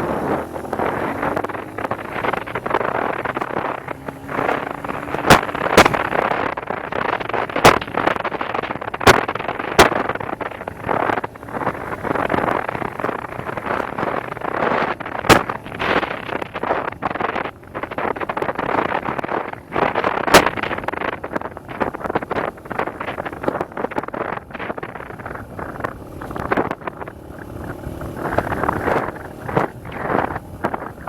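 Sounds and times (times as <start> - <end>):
dirt bike engine running: 0.0 - 31.0
wind buffeting microphone: 0.0 - 31.0.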